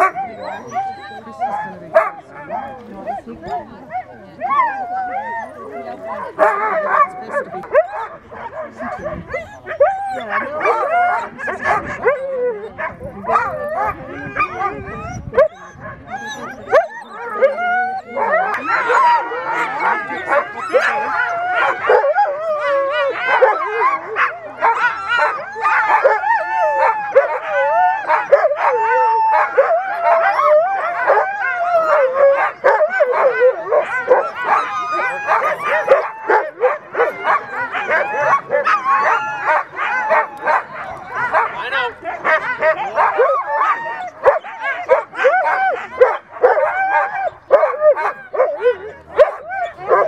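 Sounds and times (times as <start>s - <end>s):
sled dogs barking and howling: 0.0s - 50.0s.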